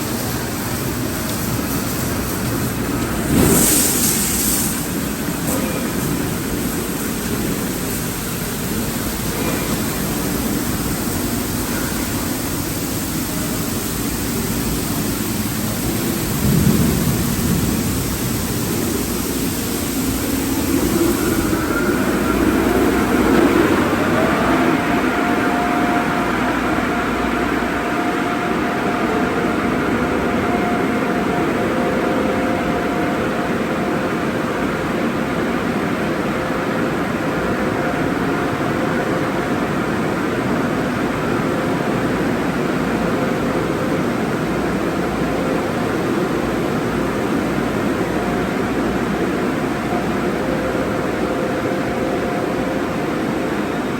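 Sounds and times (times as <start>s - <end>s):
car wash machinery rushing: 0.0s - 53.9s.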